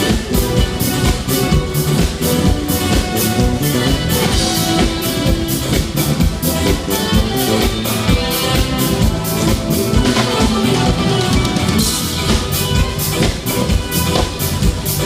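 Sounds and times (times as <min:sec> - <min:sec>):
drum kit beat: 0:00.0 - 0:15.0
live band playing: 0:00.0 - 0:15.0.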